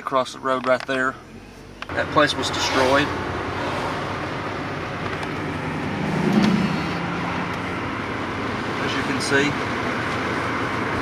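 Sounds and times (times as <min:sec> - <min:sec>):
car road and tyre noise: 0:00.0 - 0:11.0.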